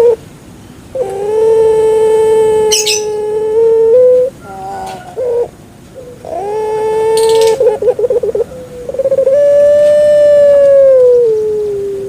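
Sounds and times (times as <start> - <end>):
dove calling: 0.0 - 0.3, 0.9 - 12.0.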